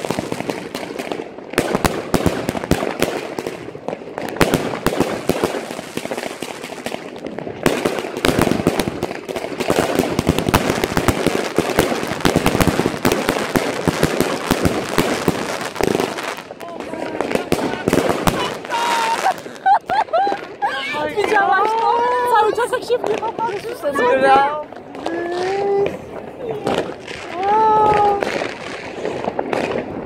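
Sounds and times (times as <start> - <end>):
firecrackers crackling: 0.0 - 30.0
fireworks bangs: 0.0 - 30.0.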